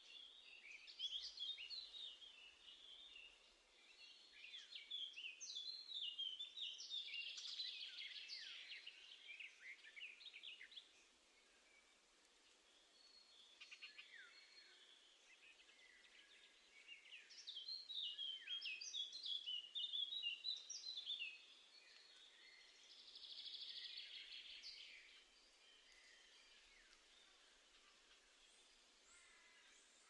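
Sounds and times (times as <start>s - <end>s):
faint steady hiss: 0.0s - 30.0s
small songbirds singing: 0.0s - 30.0s.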